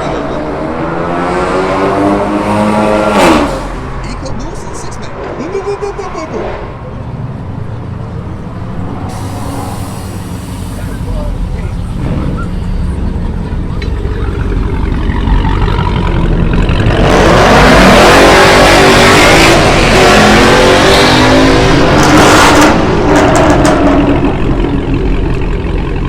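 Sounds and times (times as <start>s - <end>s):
car engine revving: 0.0s - 5.4s, 6.6s - 26.0s.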